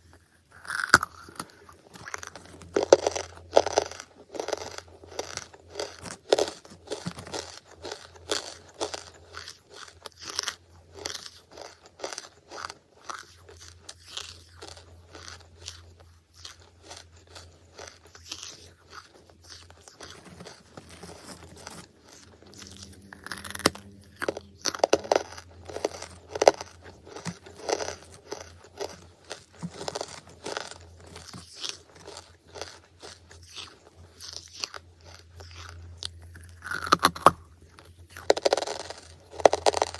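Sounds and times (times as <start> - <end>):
crunching and chewing charcoal: 0.0 - 39.9.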